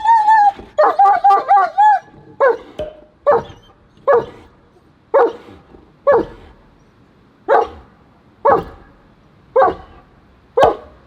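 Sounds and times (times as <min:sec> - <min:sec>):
dog barking: 0:00.0 - 0:04.5, 0:05.1 - 0:06.6, 0:07.5 - 0:11.0.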